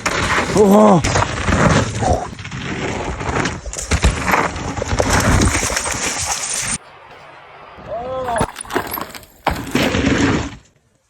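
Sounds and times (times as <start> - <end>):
bike knocks and rattles: 0.0 - 6.7, 8.3 - 10.8
bike tyre and wind noise: 0.0 - 10.9.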